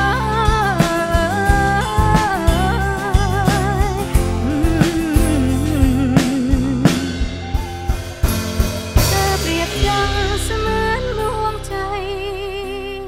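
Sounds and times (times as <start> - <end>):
live band playing pop: 0.0 - 13.0
wavering melody with vibrato: 0.0 - 13.0
drum hits: 0.6 - 11.2.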